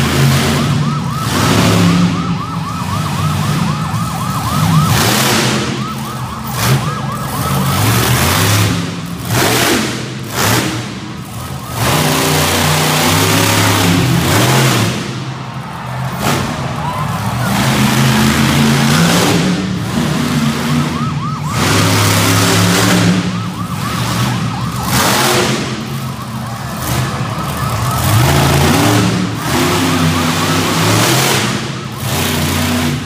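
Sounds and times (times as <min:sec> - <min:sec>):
monster truck engine revving: 0:00.0 - 0:33.0
siren yelping: 0:00.1 - 0:33.0.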